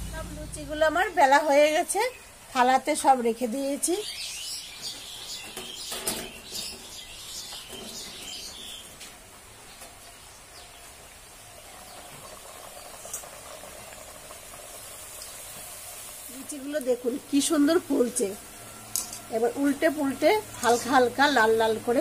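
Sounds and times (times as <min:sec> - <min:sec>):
oil sizzling while frying: 0:00.0 - 0:22.0
birds chirping faintly: 0:00.5 - 0:14.1, 0:15.1 - 0:22.0.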